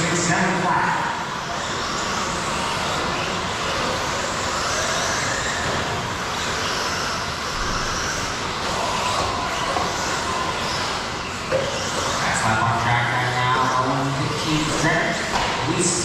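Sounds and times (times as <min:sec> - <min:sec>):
electric motor whines: 0:01.1 - 0:16.0.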